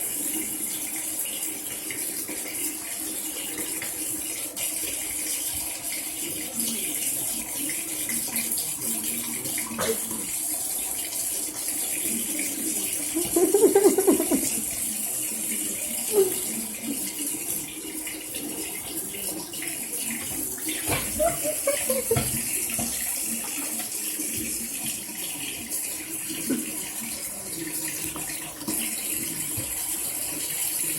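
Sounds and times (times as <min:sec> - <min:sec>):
tap water running into sink: 0:00.0 - 0:30.9.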